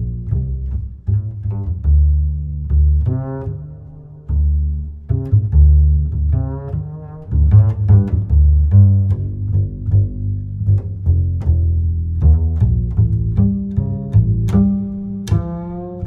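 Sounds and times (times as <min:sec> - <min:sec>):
low string notes plucked and bowed: 0:00.0 - 0:16.0.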